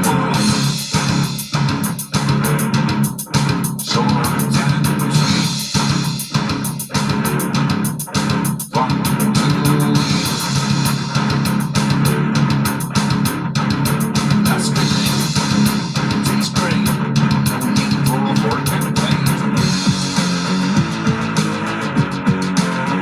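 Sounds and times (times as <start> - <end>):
bass guitar: 0.0 - 23.0
drum kit: 0.0 - 23.0.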